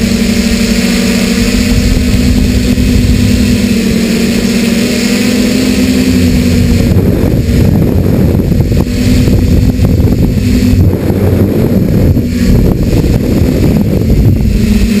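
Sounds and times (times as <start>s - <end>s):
drone propellers buzzing: 0.0s - 15.0s
wind rumble on microphone: 0.0s - 15.0s.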